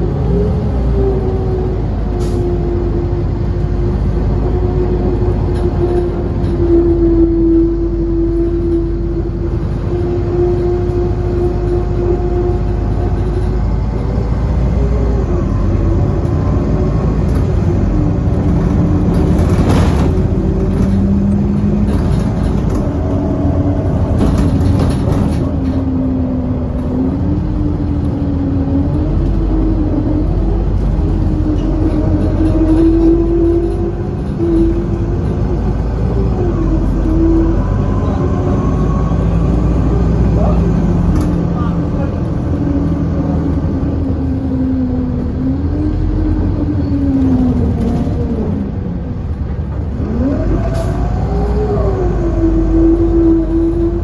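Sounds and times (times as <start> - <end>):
bus engine droning: 0.0 - 54.0
road noise: 0.0 - 54.0.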